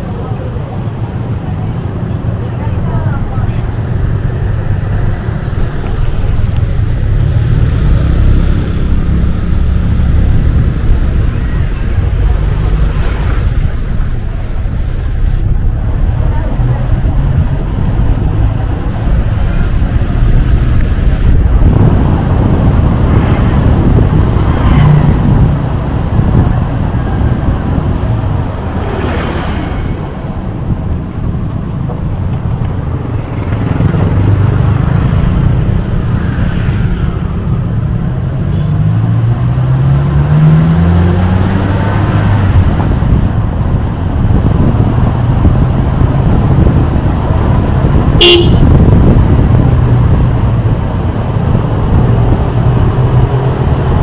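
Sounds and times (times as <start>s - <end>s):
wind noise: 1.0s - 54.0s.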